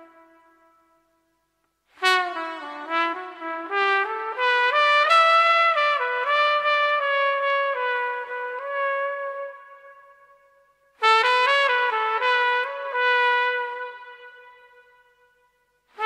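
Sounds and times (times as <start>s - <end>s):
solo trumpet jazz ballad: 0.0s - 16.0s.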